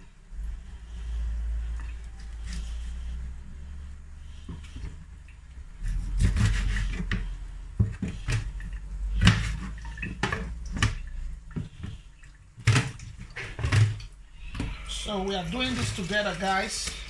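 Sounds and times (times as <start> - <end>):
wet scrapes and squelches: 0.4 - 17.0.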